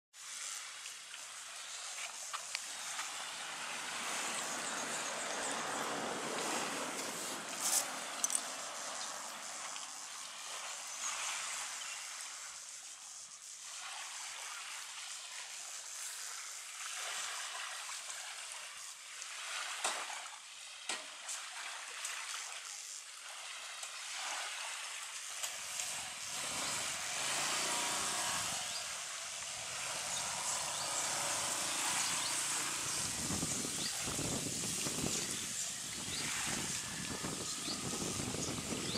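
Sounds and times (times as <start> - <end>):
small waves lapping on sand: 0.2 - 38.9.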